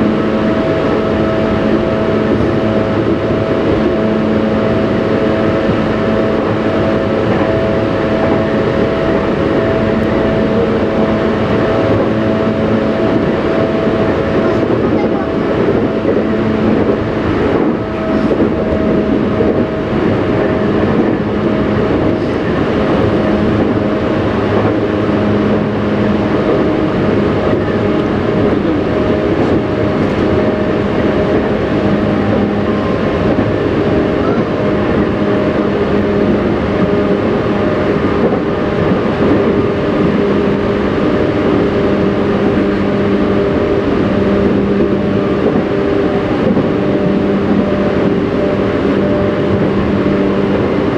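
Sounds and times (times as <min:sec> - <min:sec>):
train motors humming: 0:00.0 - 0:50.9
train wheels rumbling on rail: 0:00.0 - 0:50.9.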